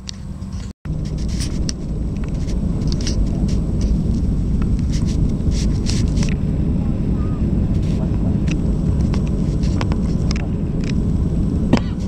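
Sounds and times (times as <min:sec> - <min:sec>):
jet engines and wheels rumbling: 0:00.0 - 0:12.0.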